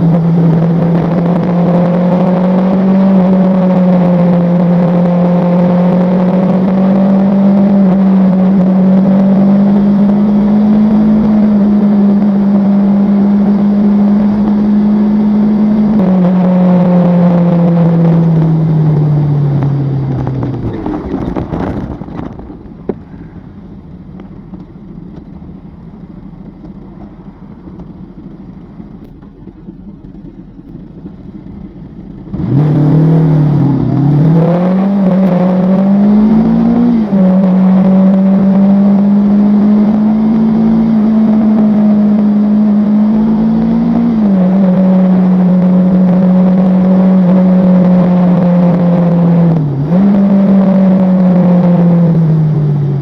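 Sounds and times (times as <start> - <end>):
vehicle engine drive note: 0.0 - 53.0
vehicle interior rumble: 0.0 - 53.0.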